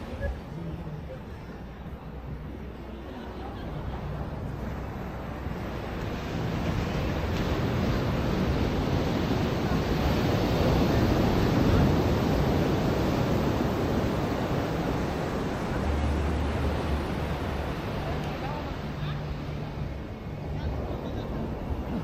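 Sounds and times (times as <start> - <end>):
ocean surf washing onto beach: 2.2 - 22.0.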